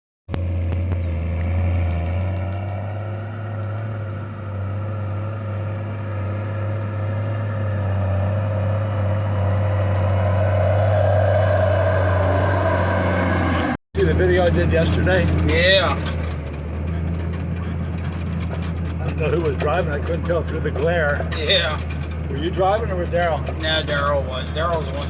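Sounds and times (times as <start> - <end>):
engine running steadily: 0.3 - 25.0.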